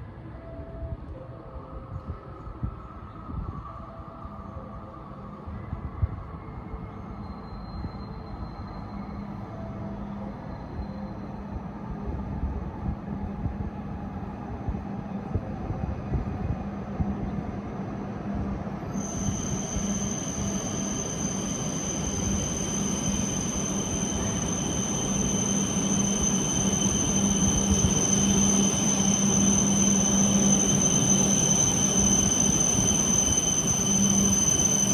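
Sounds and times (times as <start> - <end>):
train pulling into platform: 0.0 - 34.9.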